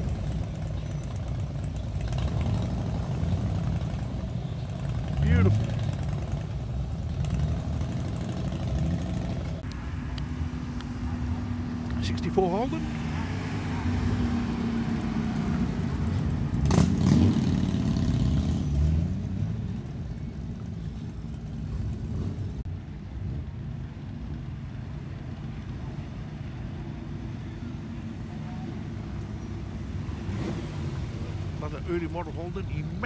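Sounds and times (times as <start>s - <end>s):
cars driving past slowly: 0.0s - 33.0s.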